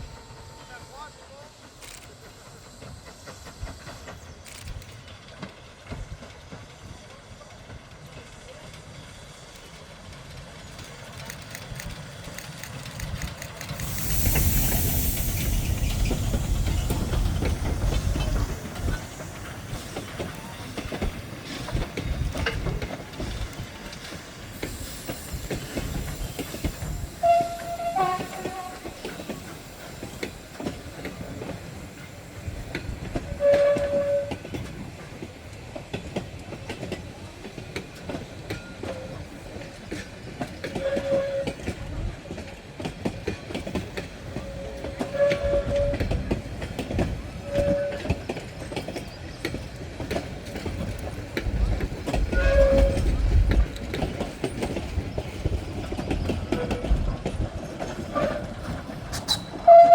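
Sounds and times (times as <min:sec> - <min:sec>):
train rumbling past: 0:00.0 - 0:59.9
wheels clicking over rail joints: 0:00.6 - 0:59.9.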